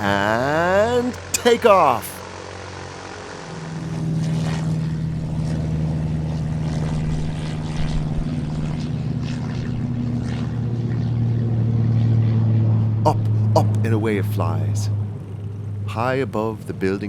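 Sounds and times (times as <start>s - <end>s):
propeller engine drone: 0.0s - 17.0s.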